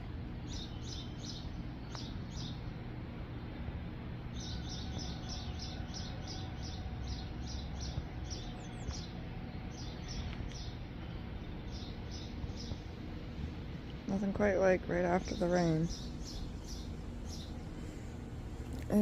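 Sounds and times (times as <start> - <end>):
low background rumble: 0.0 - 19.0
songbird chirping: 0.3 - 19.0.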